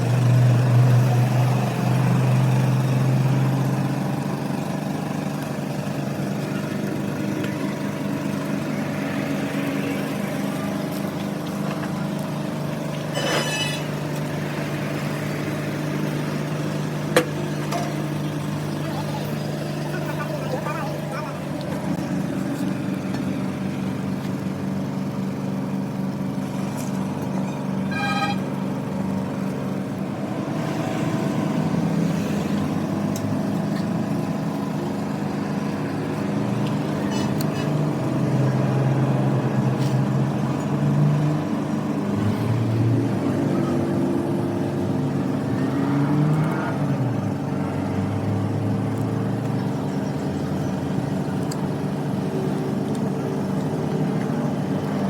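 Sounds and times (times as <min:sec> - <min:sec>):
excavator diesel engine revving: 0:00.0 - 0:55.0.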